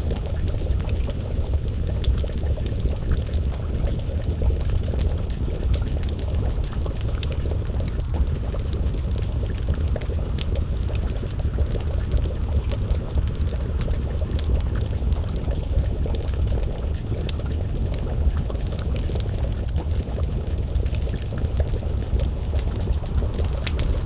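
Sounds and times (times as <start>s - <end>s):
low rumble of fire: 0.0s - 24.0s
stew bubbling in a pot: 0.0s - 24.0s
wood fire crackling and popping: 0.0s - 24.0s.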